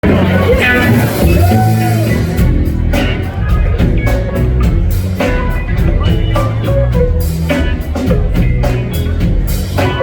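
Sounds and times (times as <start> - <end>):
drum kit beat: 0.0 - 10.0
guitar: 0.0 - 10.0
heavy bass line: 0.0 - 10.0.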